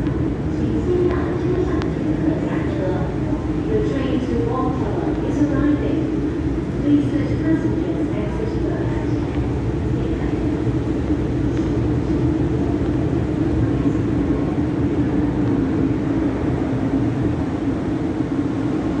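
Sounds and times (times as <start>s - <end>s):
train passing with wheel rumble: 0.0s - 19.0s.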